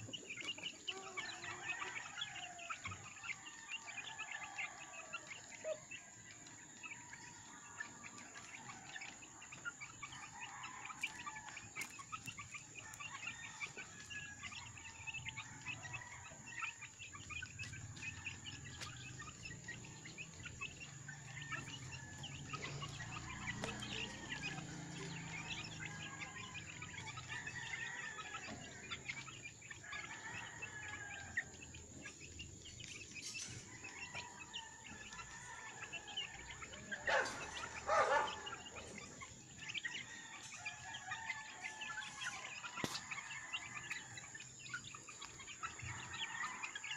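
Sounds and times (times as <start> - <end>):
chicks pecking feed: 0.0 - 46.9
chicks peeping: 0.0 - 46.9.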